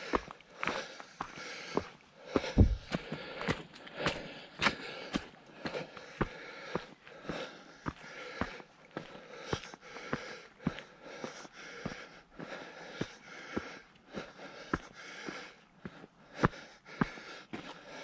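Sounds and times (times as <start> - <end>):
footsteps on rocky trail: 0.0 - 18.0
person breathing: 0.0 - 18.0.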